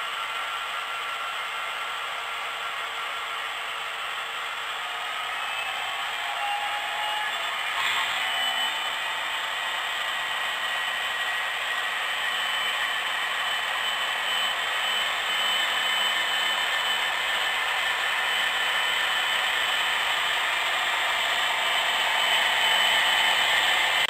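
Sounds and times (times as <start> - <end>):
second model train approaching: 0.0 - 24.0.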